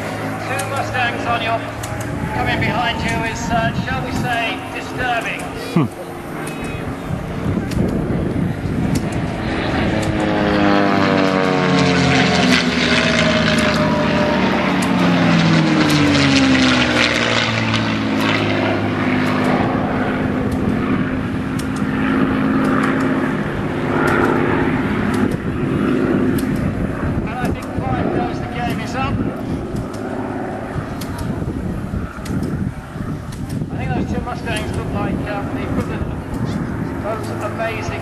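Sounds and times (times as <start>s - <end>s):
propeller aircraft engines droning: 0.0s - 38.0s.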